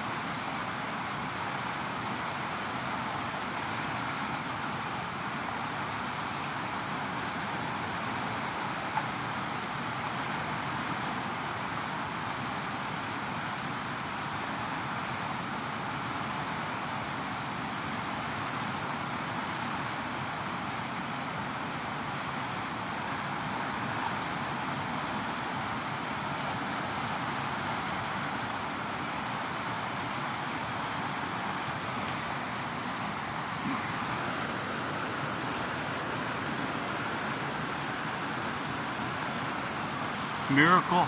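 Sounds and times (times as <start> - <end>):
river rushing over rapids: 0.0 - 41.0.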